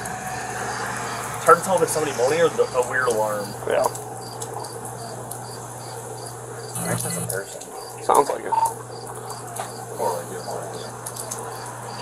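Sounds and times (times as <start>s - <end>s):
cricket chirping: 0.0s - 12.0s
low steady hum: 0.0s - 12.0s.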